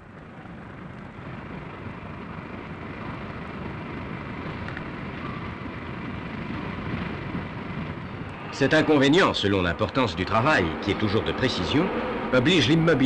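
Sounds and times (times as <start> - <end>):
steam locomotive rushing: 0.0 - 13.0.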